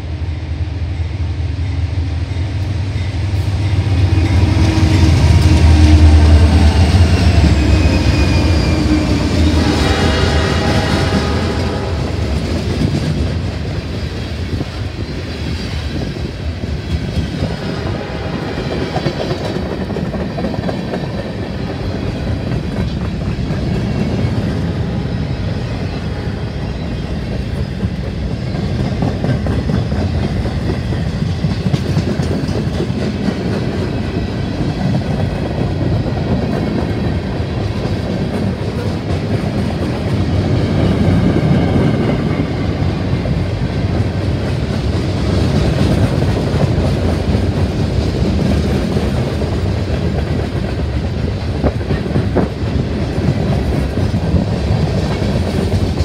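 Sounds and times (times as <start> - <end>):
freight train rumbling: 0.0 - 56.0
steel wheels clattering on rails: 3.0 - 25.0, 25.6 - 56.0.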